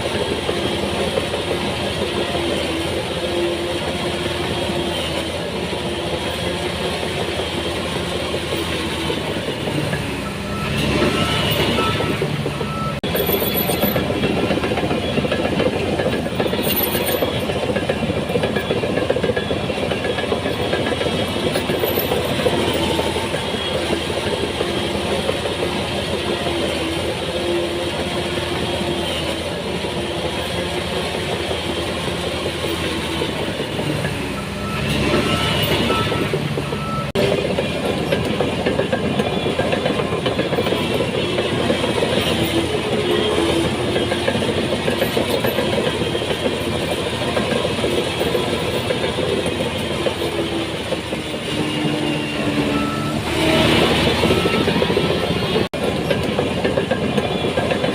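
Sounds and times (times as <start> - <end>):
diesel engine under load: 0.0 - 57.9
steel tracks clanking: 0.0 - 57.9.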